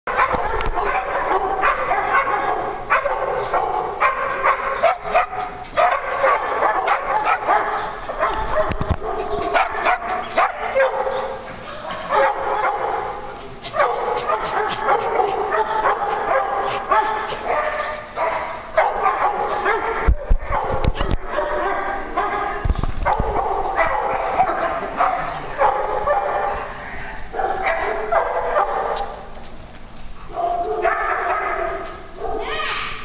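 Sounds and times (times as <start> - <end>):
small dogs barking: 0.1 - 29.3, 30.3 - 32.6.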